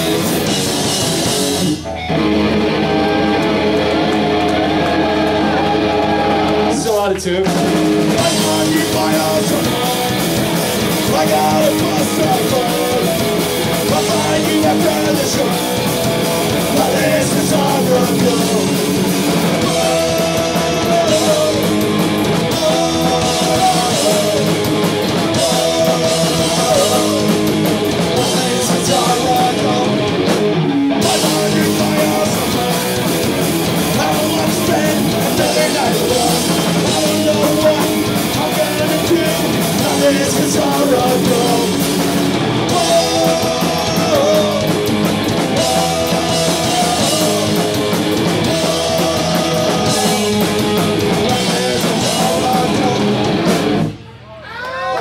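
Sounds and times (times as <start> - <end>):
punk rock band playing live: 0.0 - 54.2.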